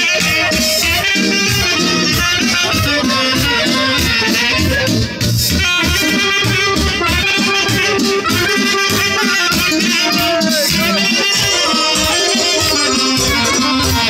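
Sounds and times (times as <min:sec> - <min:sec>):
accordion folk music: 0:00.0 - 0:14.0
rhythmic bass beat: 0:00.0 - 0:14.0.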